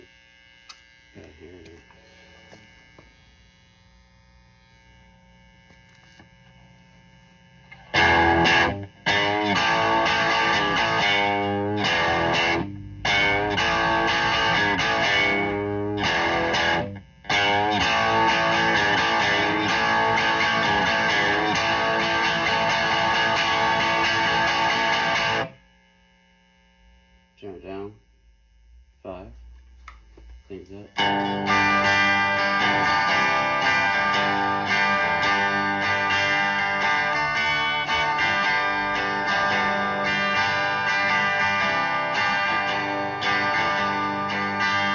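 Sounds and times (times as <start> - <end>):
distorted electric guitar chords: 0.0 - 44.9
faint amp hum: 0.0 - 44.9.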